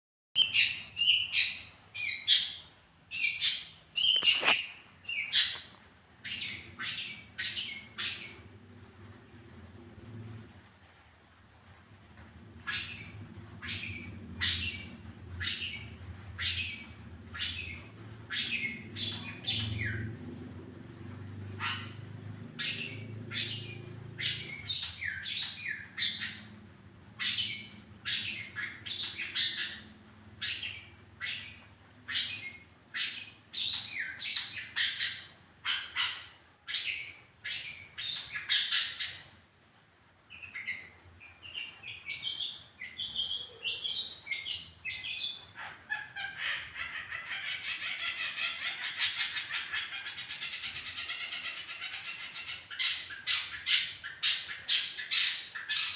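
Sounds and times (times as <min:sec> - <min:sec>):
bird chattering song: 0:00.4 - 0:08.6, 0:12.6 - 0:39.3, 0:40.3 - 0:55.9.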